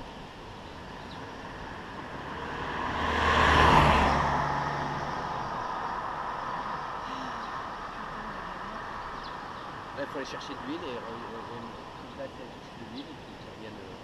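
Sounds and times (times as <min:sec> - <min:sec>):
tyre noise on road: 0:00.0 - 0:14.0
vehicle engine passing by: 0:01.0 - 0:13.4.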